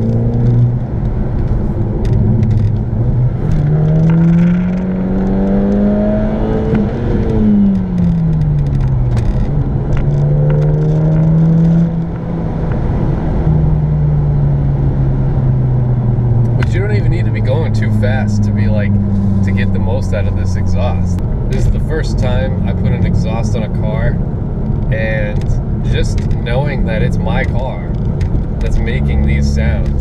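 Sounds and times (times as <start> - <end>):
car engine droning inside cabin: 0.0 - 30.0.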